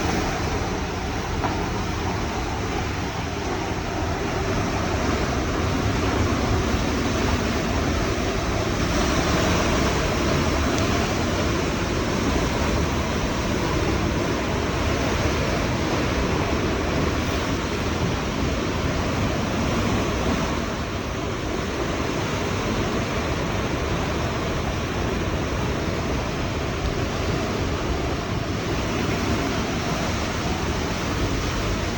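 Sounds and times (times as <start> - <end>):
strong wind blowing: 0.0 - 31.9.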